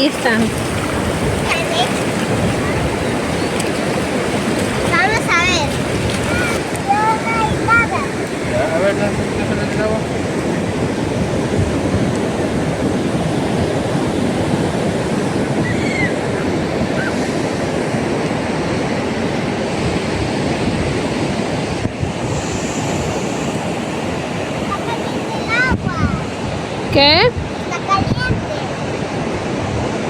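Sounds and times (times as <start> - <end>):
ocean surf breaking: 0.0 - 30.0
wind on microphone: 0.0 - 30.0.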